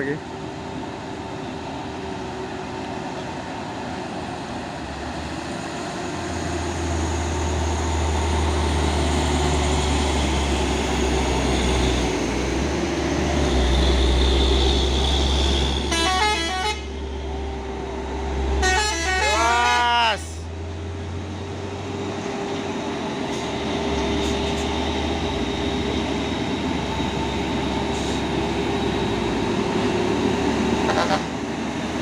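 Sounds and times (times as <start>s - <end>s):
heavy truck engine labouring: 0.0s - 32.0s.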